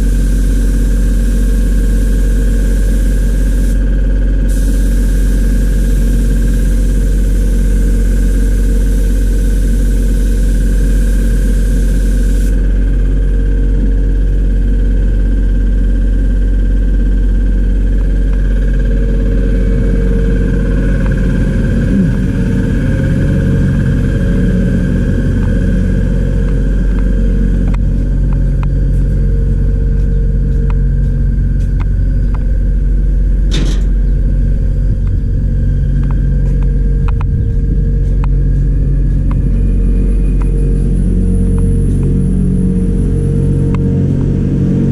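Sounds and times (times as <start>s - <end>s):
machine motor humming: 0.0s - 44.9s.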